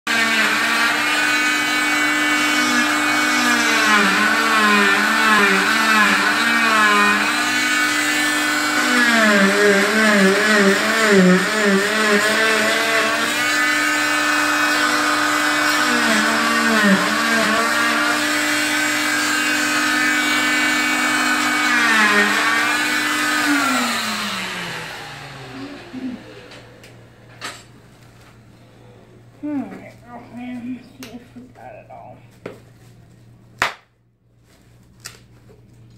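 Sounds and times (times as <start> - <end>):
cast saw whining: 0.1 - 29.3.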